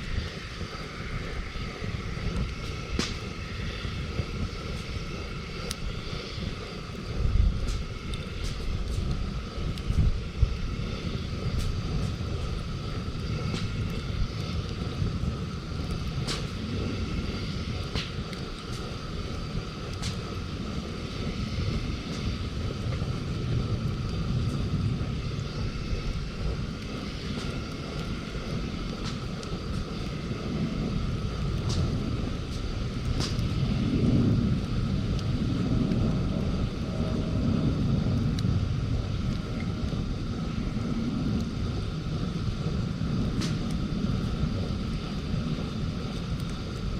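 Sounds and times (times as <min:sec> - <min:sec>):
campfire crackling: 0:00.0 - 0:46.9.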